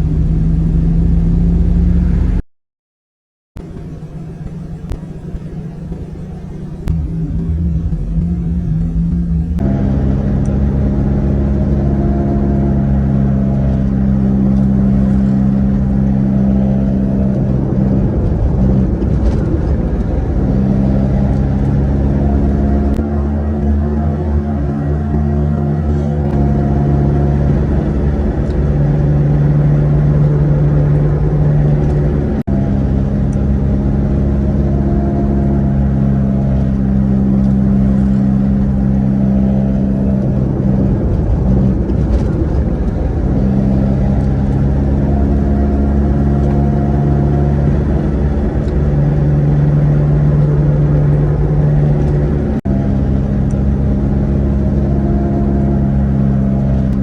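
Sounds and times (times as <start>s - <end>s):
heavy truck engine rumbling: 0.0s - 2.4s, 3.6s - 57.0s.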